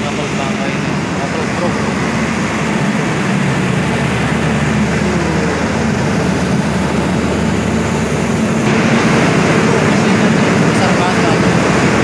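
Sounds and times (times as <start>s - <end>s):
heavy machinery din: 0.0s - 12.0s
low hum: 0.0s - 12.0s.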